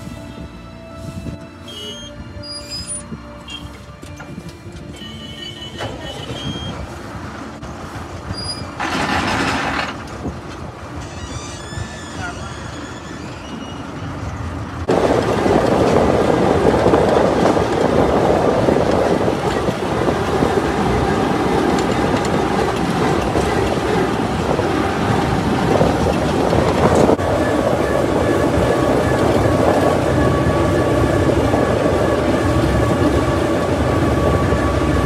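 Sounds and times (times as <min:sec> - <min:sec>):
combine harvester running: 0:00.0 - 0:35.0.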